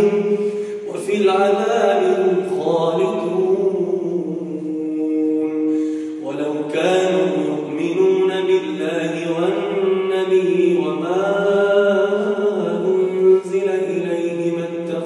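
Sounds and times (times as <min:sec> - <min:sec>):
man reciting in melodic chant: 0:00.0 - 0:15.0.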